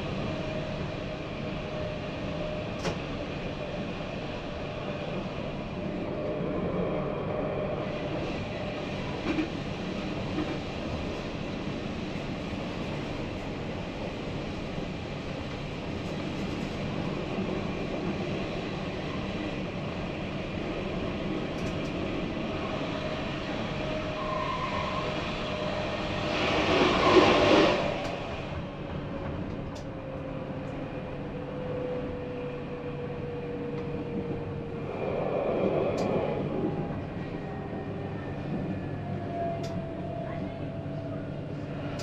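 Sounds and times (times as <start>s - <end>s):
tram rumbling on rails: 0.0s - 42.0s.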